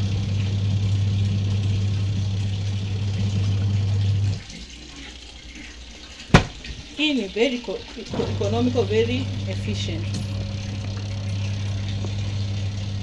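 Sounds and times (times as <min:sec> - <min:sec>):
washing machine motor hum: 0:00.0 - 0:13.0
water churning in drum: 0:00.0 - 0:13.0.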